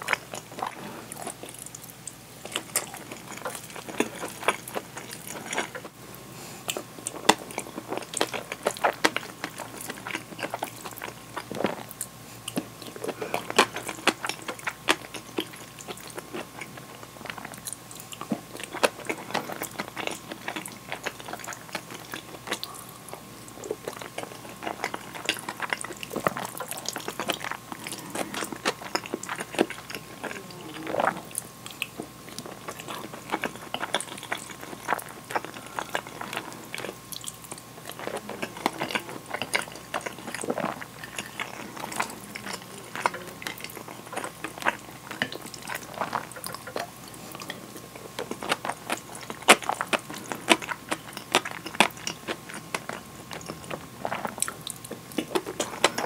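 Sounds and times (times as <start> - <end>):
wet chewing and lip smacks: 0.0 - 6.0, 6.7 - 56.0.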